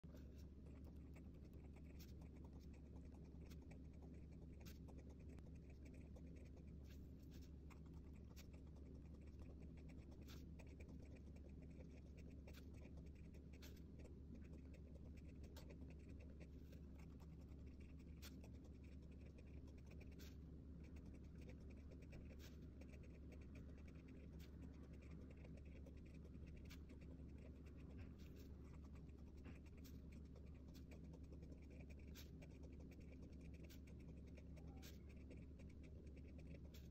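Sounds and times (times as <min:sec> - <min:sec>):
pen scratching on paper: 0:00.0 - 0:36.9
steady low hum: 0:00.0 - 0:36.9.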